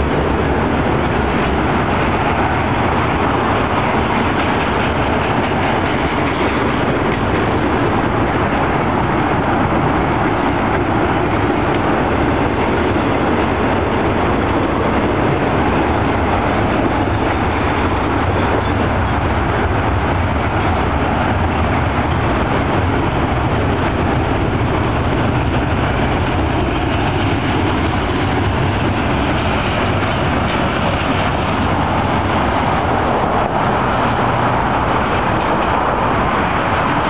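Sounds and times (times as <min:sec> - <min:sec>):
train wheels on rails: 0:00.0 - 0:37.0.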